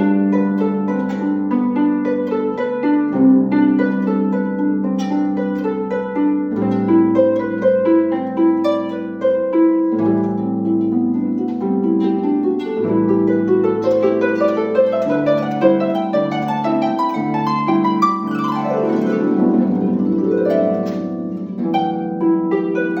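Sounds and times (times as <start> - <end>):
solo harp playing: 0.0 - 23.0.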